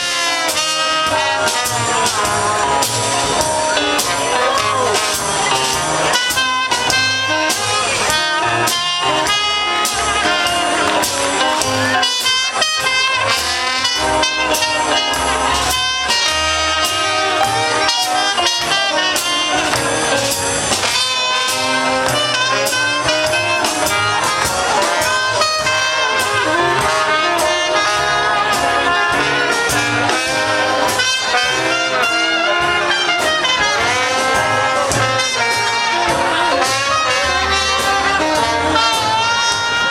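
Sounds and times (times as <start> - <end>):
jazzy horns melody: 0.0 - 39.9
steady drum beat: 0.0 - 39.9.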